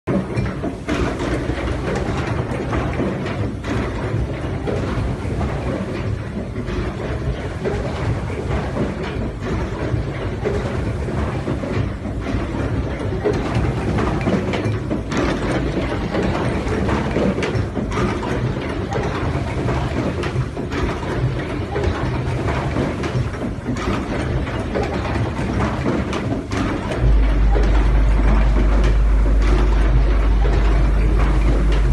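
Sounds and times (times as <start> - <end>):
machine clattering with small clicks: 0.0 - 31.9
steady low machine hum: 0.1 - 31.9.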